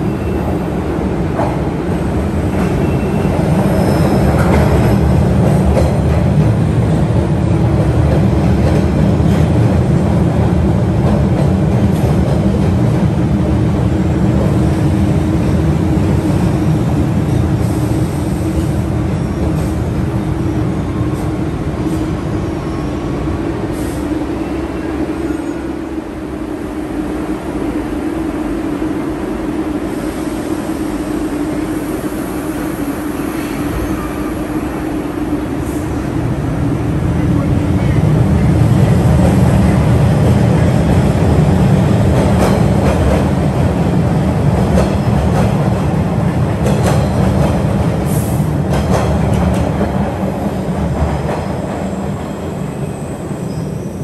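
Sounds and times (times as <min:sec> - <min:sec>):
subway train hum and rumble: 0:00.0 - 0:54.0.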